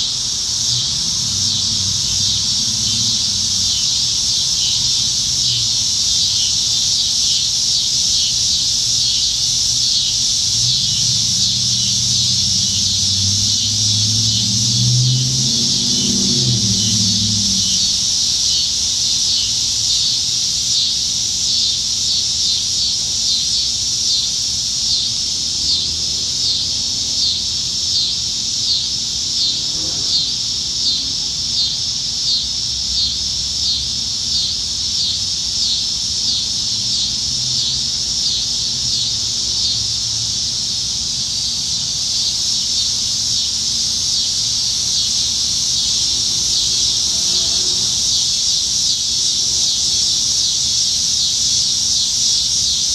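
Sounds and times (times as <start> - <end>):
cicadas buzzing: 0.0 - 52.9.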